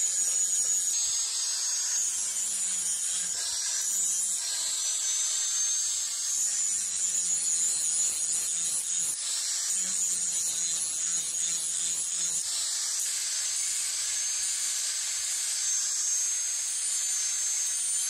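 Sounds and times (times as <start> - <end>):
angle grinder grinding steel: 0.0 - 18.0
grinder motor whine: 0.0 - 18.0.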